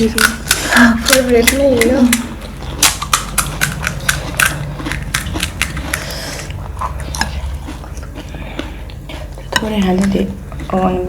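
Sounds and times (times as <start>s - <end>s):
crunching crisp food: 0.0s - 11.0s.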